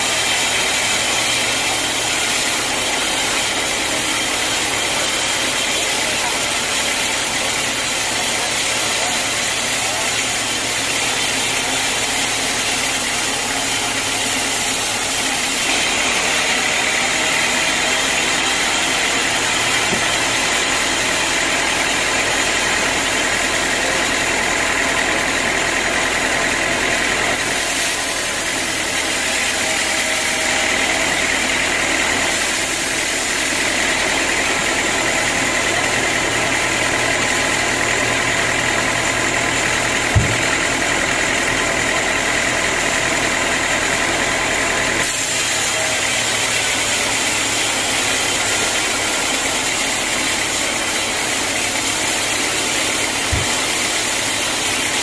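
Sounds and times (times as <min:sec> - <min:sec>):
sawmill machinery with high whine: 0:00.0 - 0:55.0.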